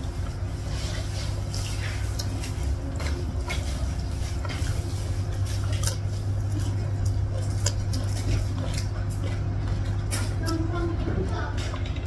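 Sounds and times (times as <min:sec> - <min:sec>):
fingers gathering wet rice: 0:00.0 - 0:10.5
chewing: 0:00.0 - 0:12.0
steady low hum: 0:00.0 - 0:12.0.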